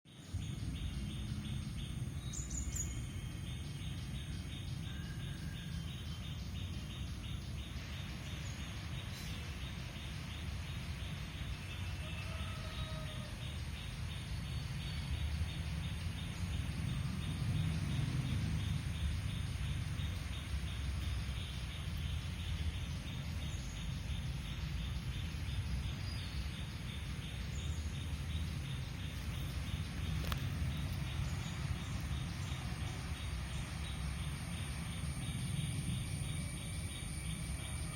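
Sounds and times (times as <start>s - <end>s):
steady low rumble: 0.2s - 12.0s, 13.4s - 37.9s
insects chirring: 0.2s - 37.9s.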